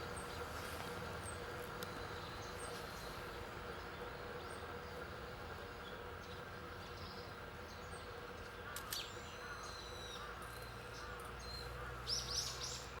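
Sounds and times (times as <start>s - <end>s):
faint steady background hum: 0.0s - 13.0s
songbird calls: 0.0s - 13.0s.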